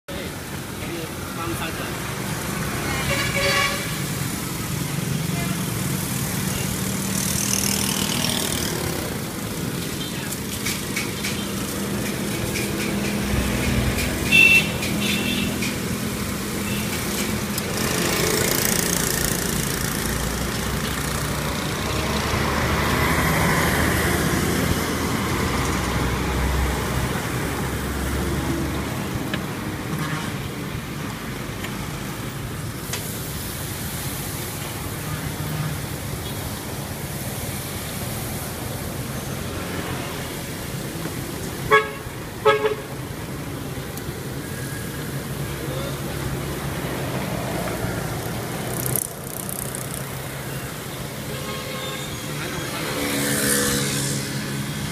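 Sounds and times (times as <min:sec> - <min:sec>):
road traffic passing: 0:00.1 - 0:54.9.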